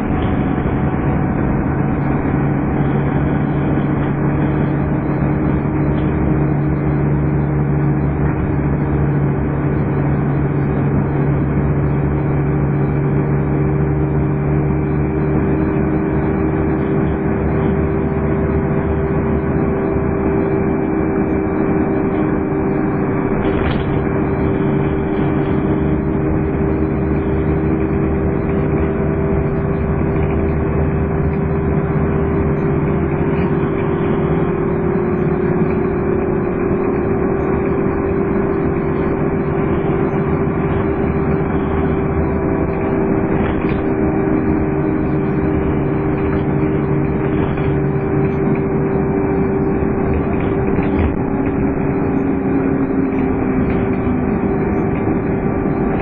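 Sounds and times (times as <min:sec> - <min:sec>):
bus diesel engine whining: 0:00.0 - 0:56.0.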